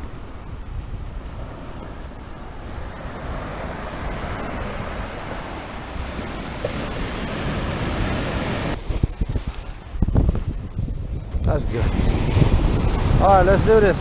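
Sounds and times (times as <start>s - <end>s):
ocean surf breaking: 0.0s - 14.0s
wind rumbling on microphone: 0.0s - 14.0s.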